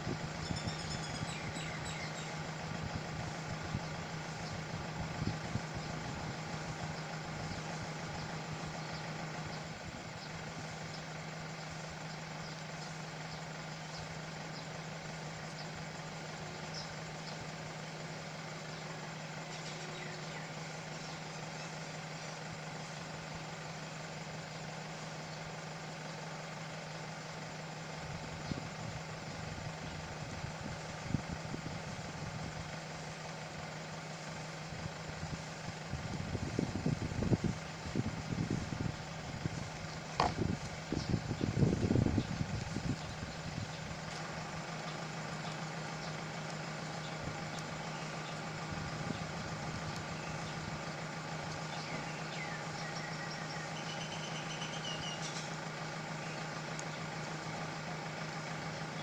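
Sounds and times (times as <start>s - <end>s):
steady mechanical hum: 0.0s - 59.0s.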